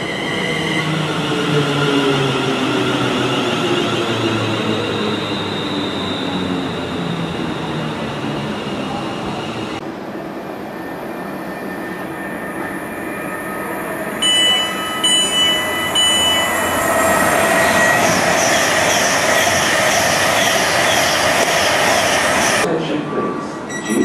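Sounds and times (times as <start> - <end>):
train rushing through station: 0.0 - 24.0.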